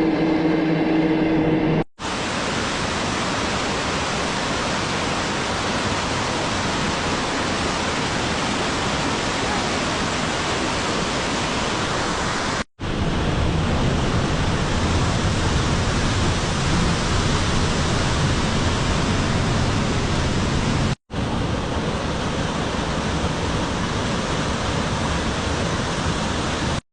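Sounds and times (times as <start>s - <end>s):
rushing water roar: 2.0s - 26.8s.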